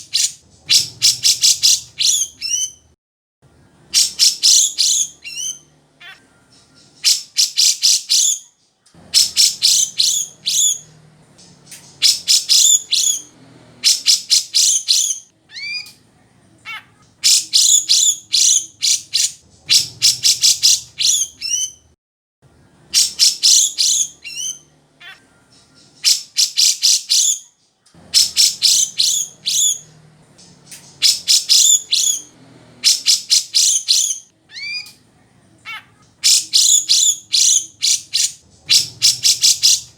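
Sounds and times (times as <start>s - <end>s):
bulbul chattering whistled song: 0.0s - 2.9s, 3.6s - 8.5s, 9.1s - 16.0s, 16.7s - 21.9s, 22.7s - 27.5s, 28.1s - 35.0s, 35.7s - 39.9s.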